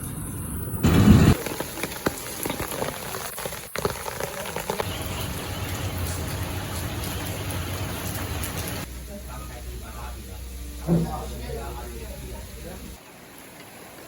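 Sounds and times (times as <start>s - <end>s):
rain pattering: 0.8s - 14.0s.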